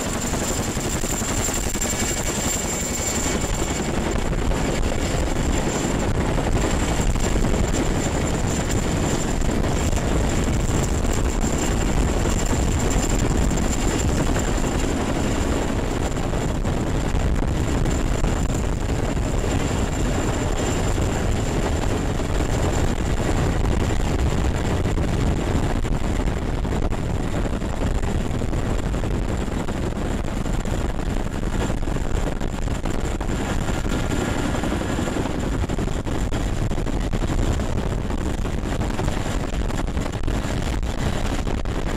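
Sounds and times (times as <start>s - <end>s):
helicopter rotor and turbine noise: 0.0s - 41.9s.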